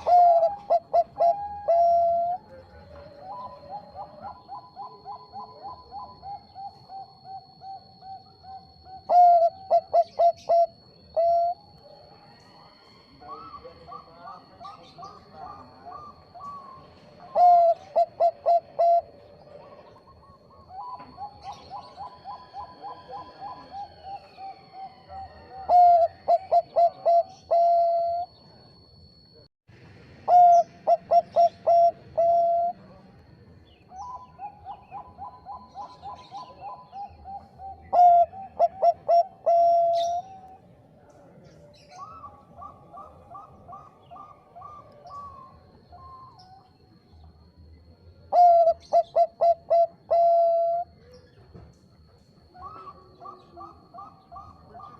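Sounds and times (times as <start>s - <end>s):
doves cooing: 0.0s - 29.4s, 30.2s - 40.7s, 41.4s - 47.6s, 48.2s - 54.9s.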